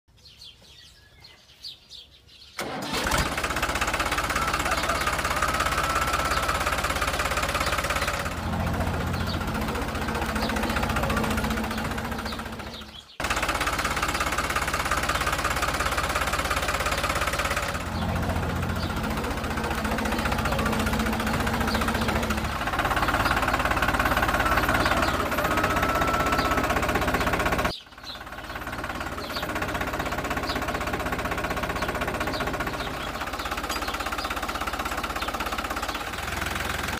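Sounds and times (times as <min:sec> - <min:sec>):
tractor engine knocking: 0:02.6 - 0:36.9.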